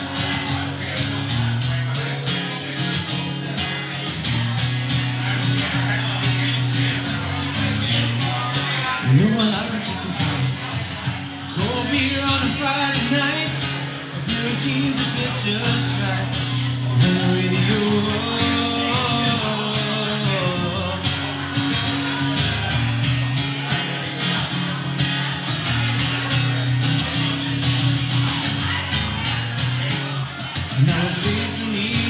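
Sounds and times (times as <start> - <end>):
man singing country song: 0.0 - 32.0
strummed acoustic guitar: 0.0 - 32.0.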